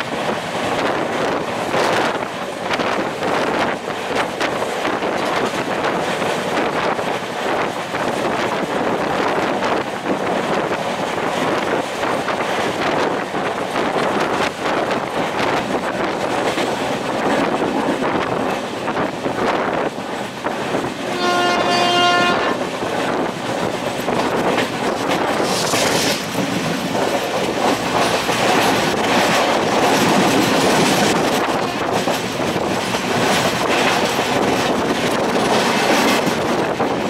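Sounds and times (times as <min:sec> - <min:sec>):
train coaches running on track: 0:00.0 - 0:37.0
wind on microphone: 0:00.0 - 0:37.0.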